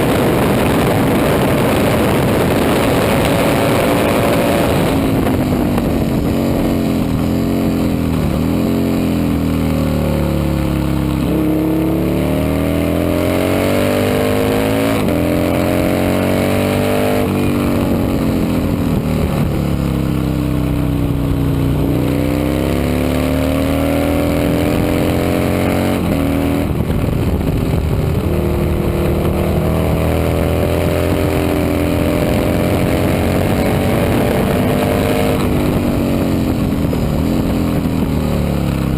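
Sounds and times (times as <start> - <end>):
racing motorcycle engines: 0.0 - 38.9.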